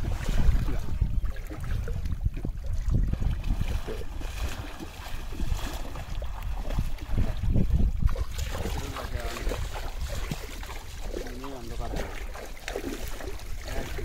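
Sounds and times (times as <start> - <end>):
water splashing from wading: 0.0 - 14.0
wind buffeting microphone: 0.0 - 14.0.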